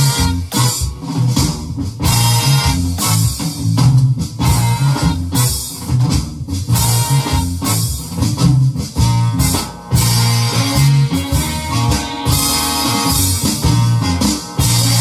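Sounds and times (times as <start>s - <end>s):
band music with bass and drums: 0.0s - 15.0s
electronic drum kit strokes: 0.0s - 15.0s.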